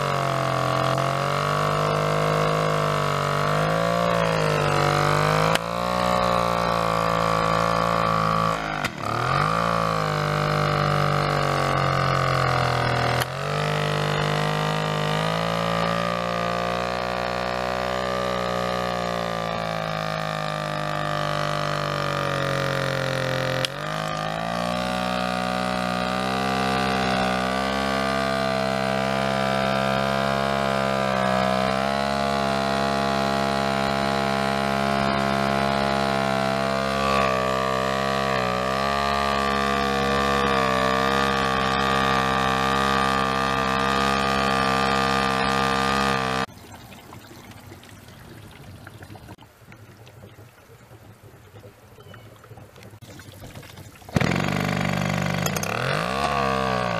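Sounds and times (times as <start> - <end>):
small engine running: 0.0 - 46.6, 52.0 - 56.9.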